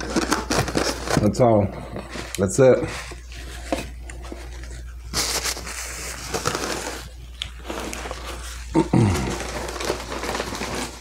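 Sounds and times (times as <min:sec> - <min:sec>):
packaging crinkling: 0:00.0 - 0:01.5, 0:03.1 - 0:11.0.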